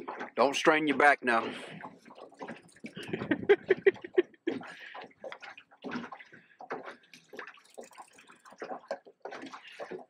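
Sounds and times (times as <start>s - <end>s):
water slapping against boat hull: 0.0s - 10.0s.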